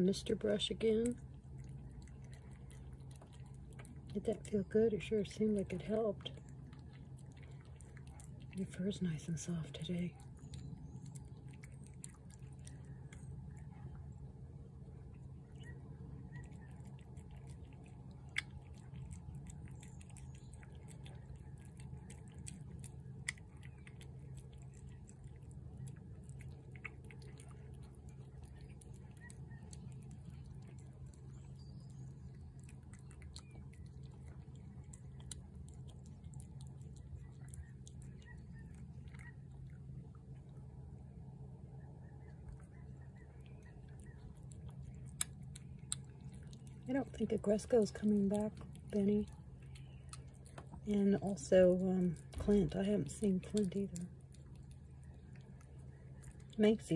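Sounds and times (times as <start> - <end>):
cat chewing and lapping food: 0.0 - 56.9
steady low hum: 0.0 - 56.9.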